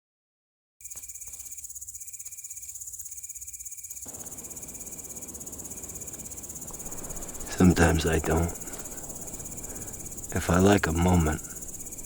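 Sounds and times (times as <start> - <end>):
grasshopper buzzing trill: 0.8 - 12.0.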